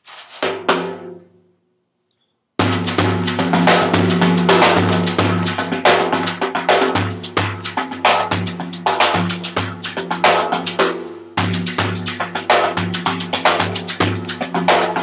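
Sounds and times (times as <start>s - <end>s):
frame drum hand strikes: 2.6s - 15.0s.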